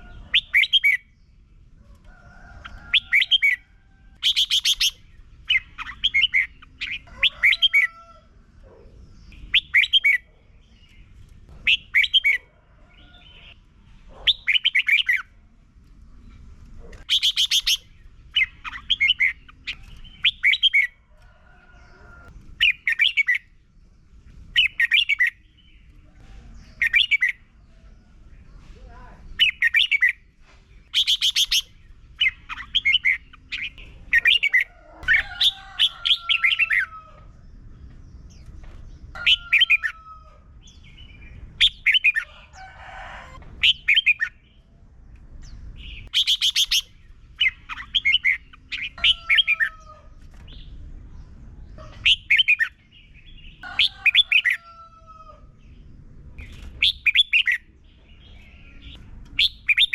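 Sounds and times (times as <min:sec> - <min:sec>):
bird singing warbling phrases: 0:00.0 - 0:01.6, 0:02.7 - 0:08.0, 0:08.6 - 0:15.4, 0:16.8 - 0:21.0, 0:22.6 - 0:23.6, 0:24.3 - 0:26.0, 0:26.6 - 0:30.3, 0:30.9 - 0:42.5, 0:43.6 - 0:44.7, 0:45.5 - 0:54.6, 0:55.6 - 0:59.9.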